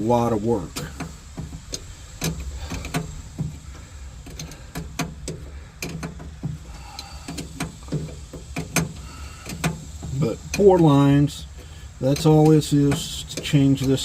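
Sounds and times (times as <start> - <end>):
low steady hum: 0.0 - 14.0
sharp clicks and knocks: 0.0 - 14.0.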